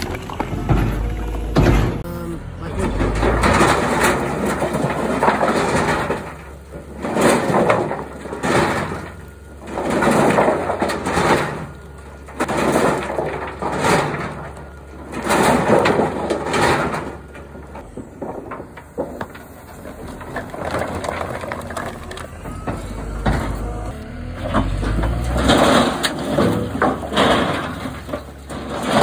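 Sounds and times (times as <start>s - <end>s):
firewood tumbling in rotating drum: 0.0s - 2.1s, 2.7s - 29.0s
wheel loader engine hum: 0.0s - 29.0s.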